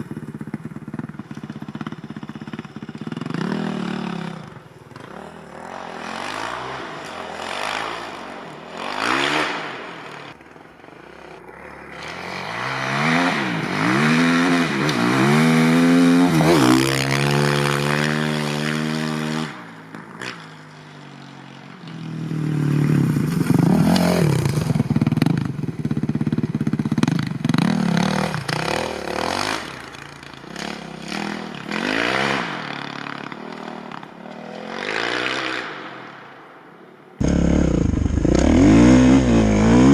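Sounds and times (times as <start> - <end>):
motocross engine revving: 0.0 - 20.4, 22.1 - 35.9, 37.2 - 39.9.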